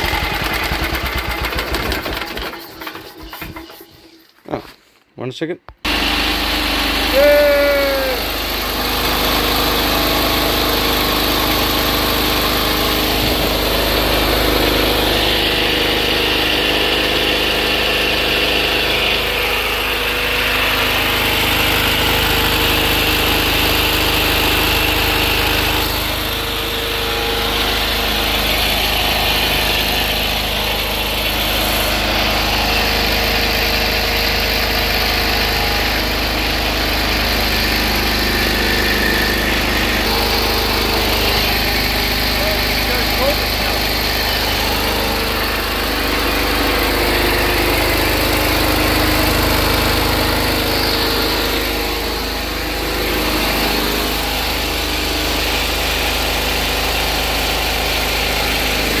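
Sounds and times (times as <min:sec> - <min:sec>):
diesel engine running: 0:00.0 - 0:04.3, 0:05.9 - 0:59.0.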